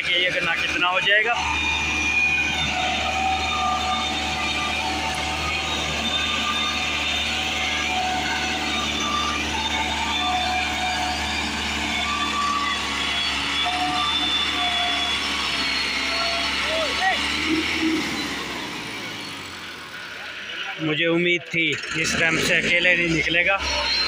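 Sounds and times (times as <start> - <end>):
tractor diesel engine straining: 0.0 - 24.0.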